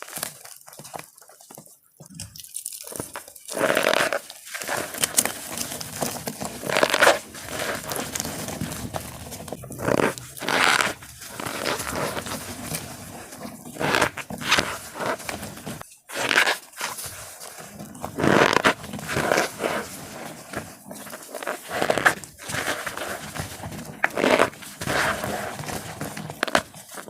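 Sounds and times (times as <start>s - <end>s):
chalk blocks crunching: 2.3s - 27.0s.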